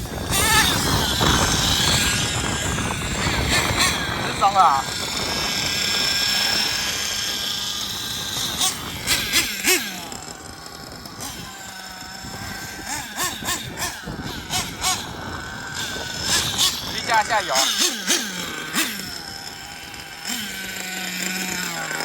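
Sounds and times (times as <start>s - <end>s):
small engine revving: 0.0s - 22.0s
small engine whining: 0.0s - 22.0s.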